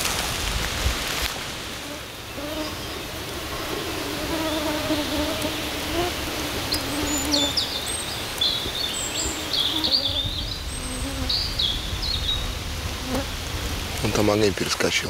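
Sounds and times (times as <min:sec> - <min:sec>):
flying insect buzzing: 0:01.8 - 0:14.0
songbird chirping: 0:02.2 - 0:14.3.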